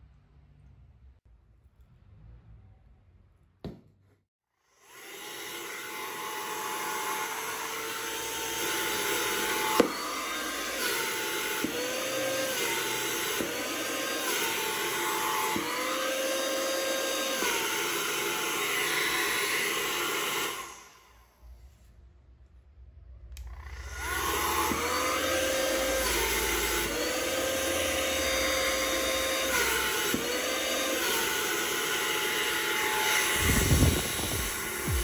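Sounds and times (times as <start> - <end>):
vacuum cleaner motor whining: 4.8 - 21.3, 23.4 - 35.0.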